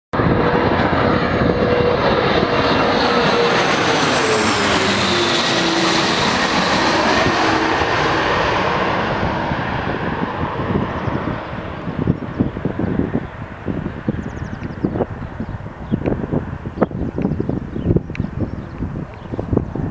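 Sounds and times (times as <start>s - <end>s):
airliner engines passing: 0.2s - 19.9s.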